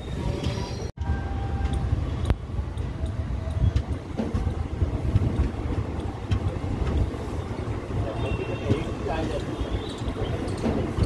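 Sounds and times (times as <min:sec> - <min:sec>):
train coach rumbling: 0:00.0 - 0:11.0
wind buffeting microphone: 0:01.1 - 0:11.0.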